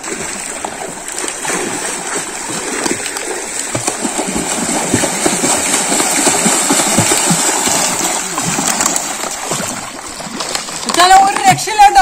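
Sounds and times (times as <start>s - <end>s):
swimmer splashing water: 0.0s - 12.0s.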